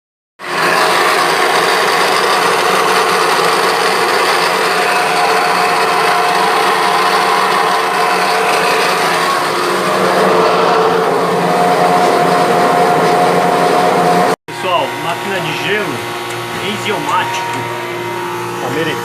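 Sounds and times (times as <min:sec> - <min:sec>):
ice machine motor running: 0:00.4 - 0:19.0.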